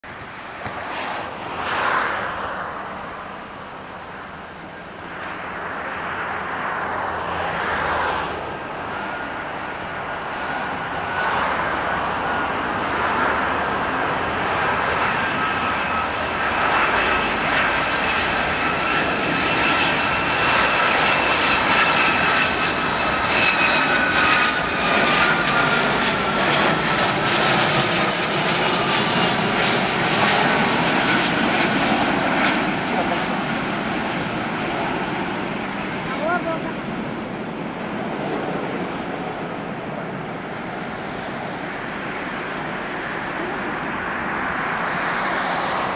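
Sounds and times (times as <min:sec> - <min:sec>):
jet engines roaring and whining: 0:00.0 - 0:45.9.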